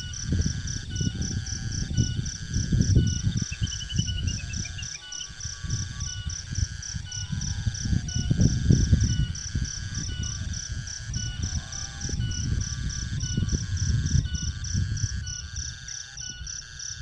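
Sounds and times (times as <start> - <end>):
insects pulsing calls: 0.0 - 17.0
low rumble of wind on microphone: 0.0 - 17.0
repeating chirping calls: 0.0 - 17.0.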